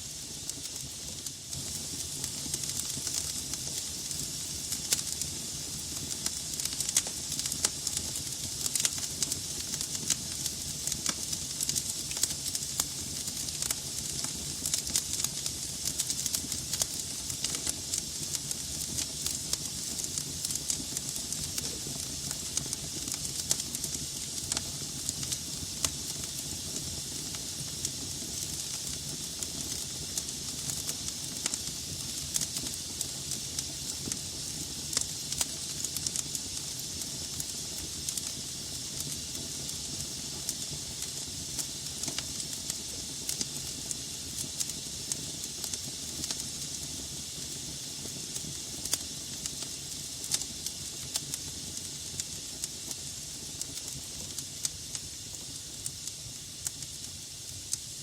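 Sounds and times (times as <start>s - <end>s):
logs burning in fireplace: 0.0s - 58.0s.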